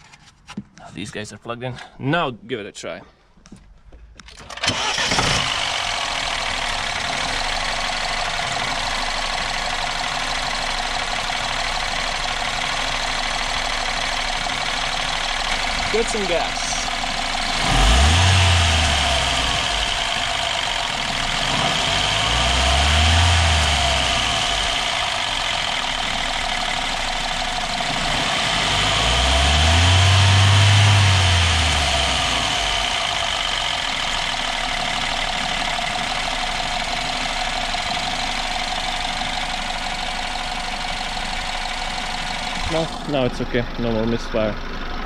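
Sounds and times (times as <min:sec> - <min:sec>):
car engine revving and idling: 0:04.7 - 0:45.0.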